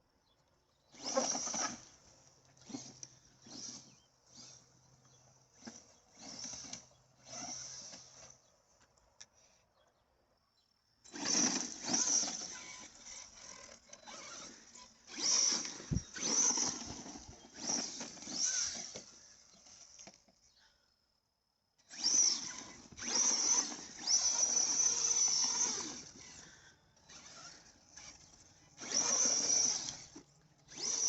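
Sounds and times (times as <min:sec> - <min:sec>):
rc truck motor whirring: 0:00.7 - 0:09.0, 0:11.0 - 0:20.6, 0:21.5 - 0:31.0.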